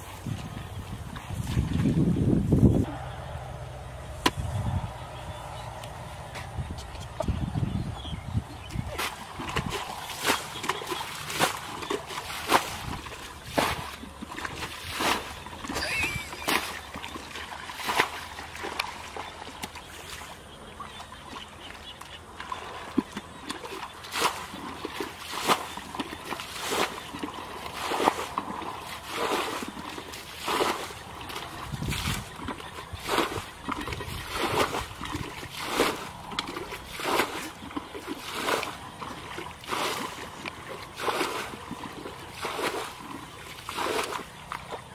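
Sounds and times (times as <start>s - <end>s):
footsteps splashing through water: 8.6s - 44.9s.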